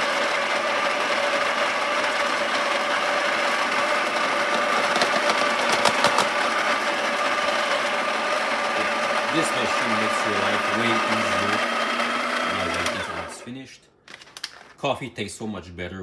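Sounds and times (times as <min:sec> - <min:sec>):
coffee grinder grinding beans: 0:00.0 - 0:13.5.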